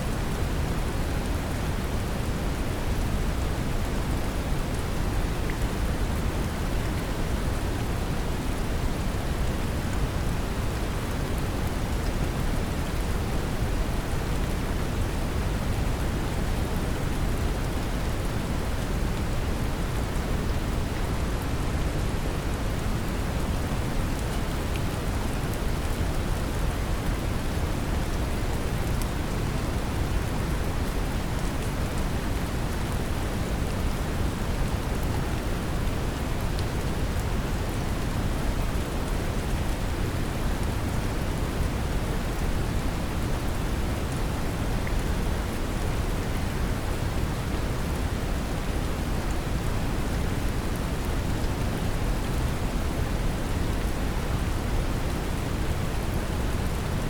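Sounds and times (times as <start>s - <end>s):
gentle rain pattering: 0.0s - 57.0s.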